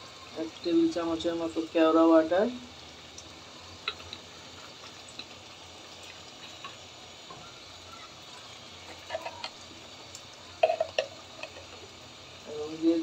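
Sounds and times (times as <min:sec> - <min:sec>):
gravy simmering with bubbling: 0:00.0 - 0:12.5.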